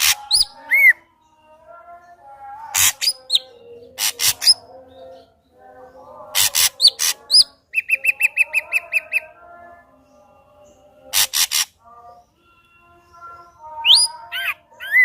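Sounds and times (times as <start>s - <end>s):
bird song with rasping calls: 0.0s - 15.0s.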